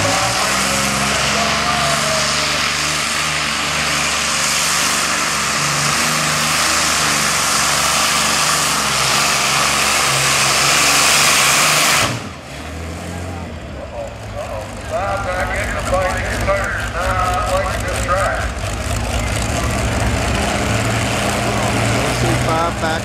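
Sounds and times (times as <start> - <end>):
tractor engine at full power: 0.0 - 23.0.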